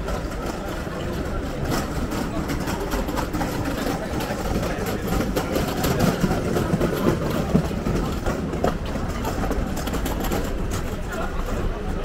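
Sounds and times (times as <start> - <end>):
indistinct chatter of people: 0.0 - 12.0
steady low city rumble: 0.0 - 12.0.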